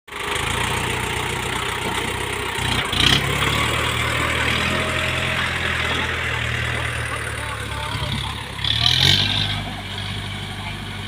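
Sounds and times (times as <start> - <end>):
heavy diesel machinery idling: 0.1 - 11.0.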